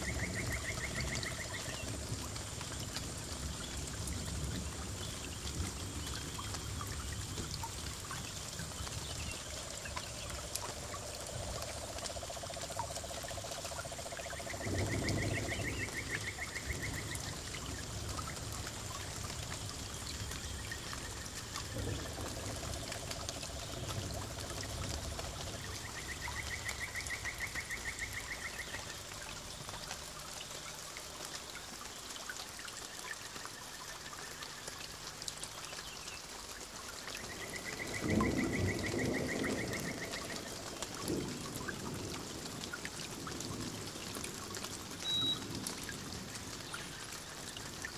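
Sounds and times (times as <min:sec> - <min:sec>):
small waterfall trickling: 0:00.0 - 0:47.9.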